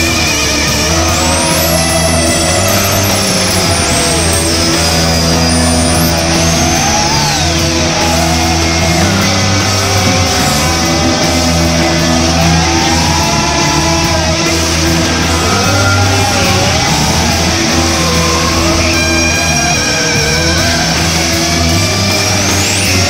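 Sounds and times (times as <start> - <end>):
heavy rock music: 0.0 - 23.0.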